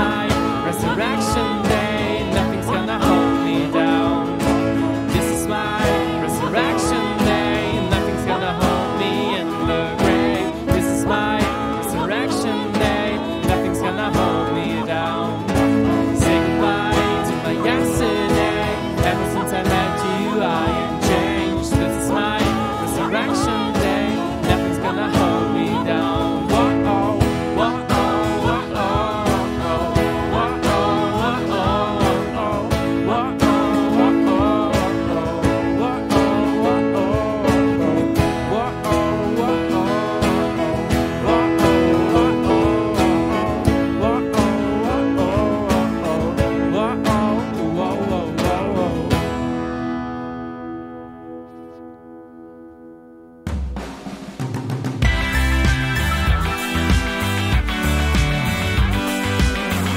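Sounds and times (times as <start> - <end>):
man singing: 0.0 - 49.9
strummed acoustic guitar: 0.0 - 59.9.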